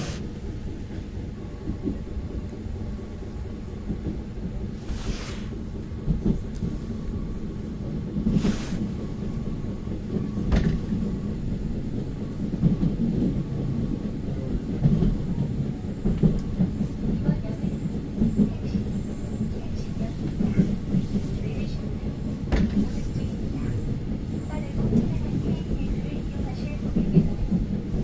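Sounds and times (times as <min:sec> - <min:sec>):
train rumbling with wheel clatter: 0:00.0 - 0:28.0.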